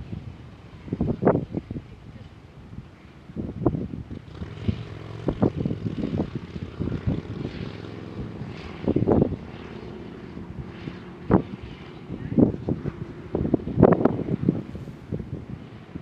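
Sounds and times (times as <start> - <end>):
faint steady drone: 0.0 - 16.0
wind buffeting microphone: 0.0 - 16.0.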